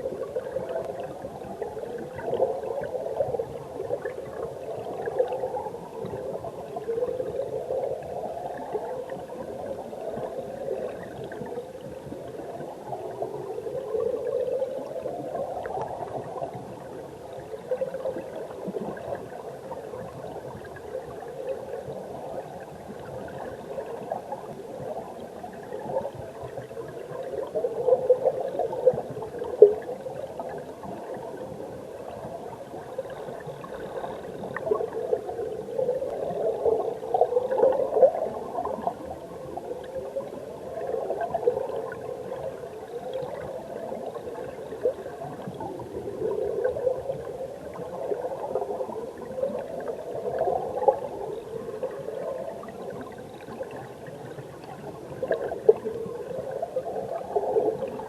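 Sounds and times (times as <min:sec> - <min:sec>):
muffled underwater stream rushing: 0:00.0 - 0:58.0.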